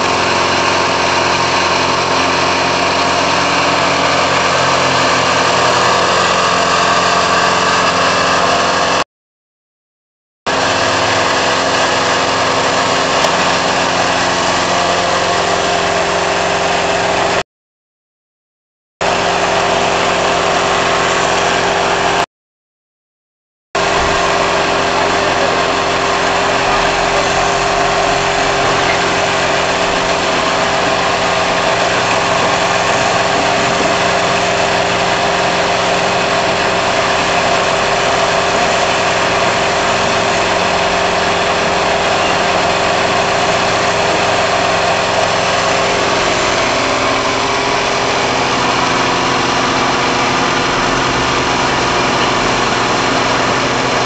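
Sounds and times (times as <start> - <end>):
spray machine humming: 0.0 - 9.0, 10.5 - 17.4, 19.0 - 22.2, 23.8 - 54.0.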